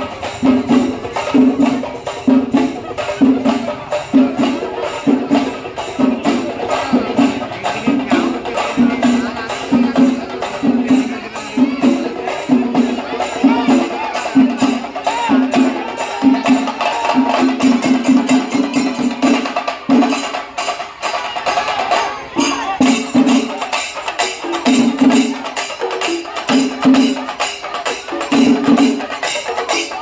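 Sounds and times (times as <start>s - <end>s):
fast sharp drum strokes: 0.0s - 30.0s.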